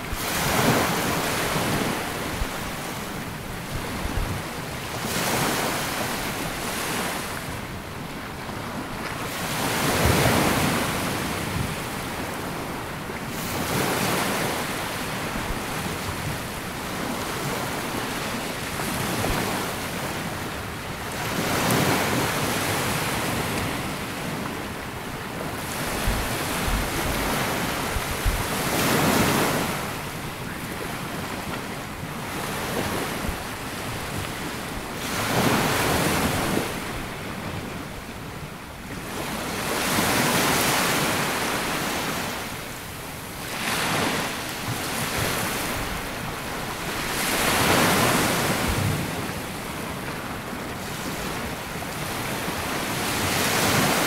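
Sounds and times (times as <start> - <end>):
sea waves washing onto beach: 0.0 - 54.0
wind rumbling on microphone: 0.0 - 54.0.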